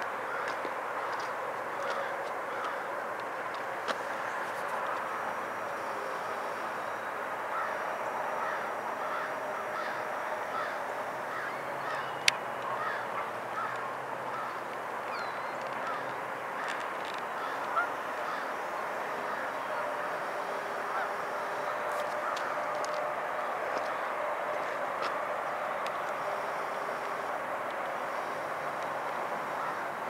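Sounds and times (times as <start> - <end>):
waterbirds honking: 0.0 - 30.0.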